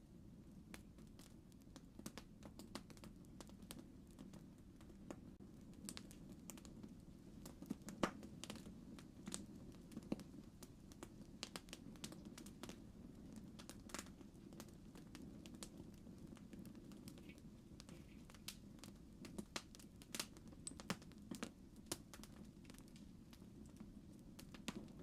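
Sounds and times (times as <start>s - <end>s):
campfire crackling: 0.2s - 25.0s.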